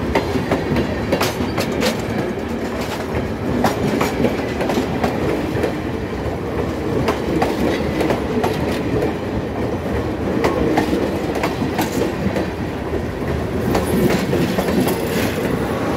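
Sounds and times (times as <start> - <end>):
train railcars rumbling: 0.0 - 15.9.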